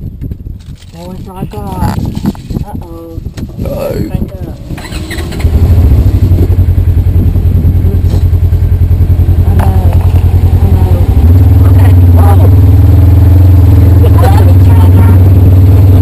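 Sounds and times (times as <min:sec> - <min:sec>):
engine idling loudly: 0:00.1 - 0:16.0.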